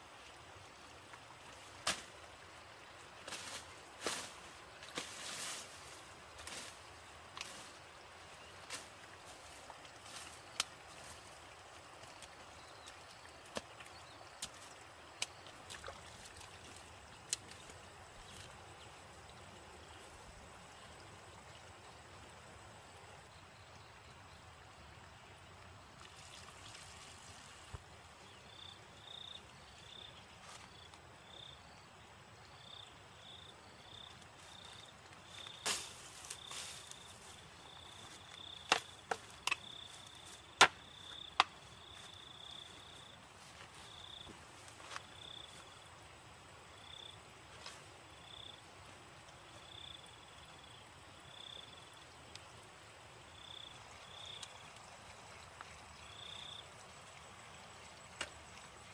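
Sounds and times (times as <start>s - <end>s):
insect chirping: 0.0s - 58.9s.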